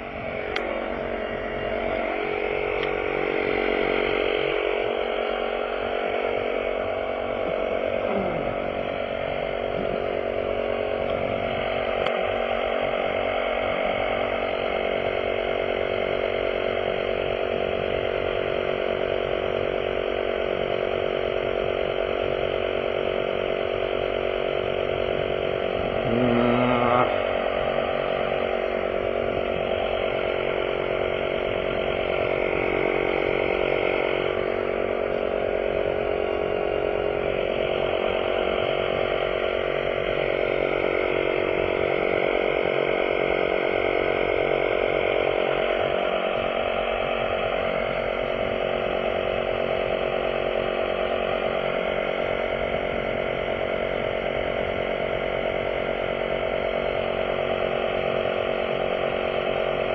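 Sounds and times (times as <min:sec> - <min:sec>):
small motor running: 0:00.0 - 0:59.9.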